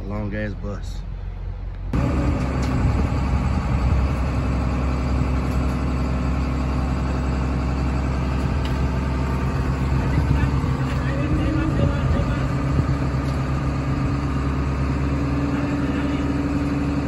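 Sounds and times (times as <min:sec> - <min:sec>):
truck diesel engine idling: 0:00.7 - 0:17.0.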